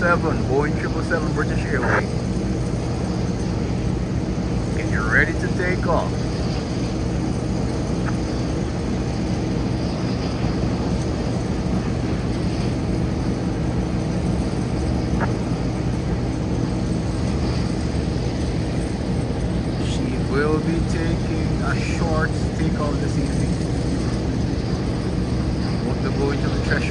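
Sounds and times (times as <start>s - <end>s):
jet engines droning: 0.0s - 26.9s.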